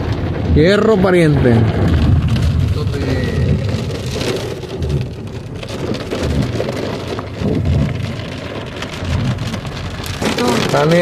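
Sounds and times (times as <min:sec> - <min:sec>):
rain drumming on car roof: 0:00.0 - 0:11.0.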